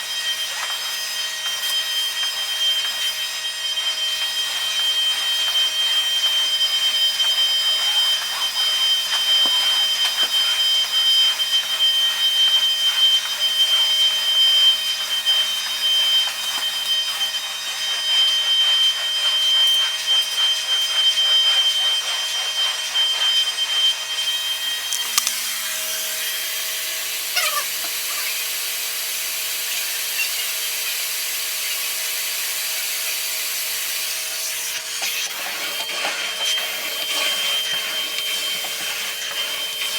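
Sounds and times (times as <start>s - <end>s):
carpet extraction vacuum whining: 0.0s - 39.9s.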